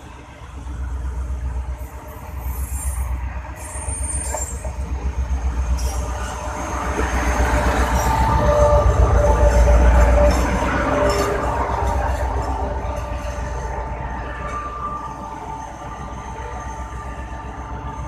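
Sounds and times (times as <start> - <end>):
locomotive engine rumble: 0.0 - 18.0
train brakes squealing: 1.7 - 18.0.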